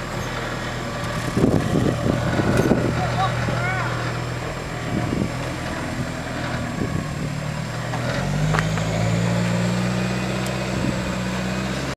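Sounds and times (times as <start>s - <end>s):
engine pulling at low revs: 0.0s - 11.9s.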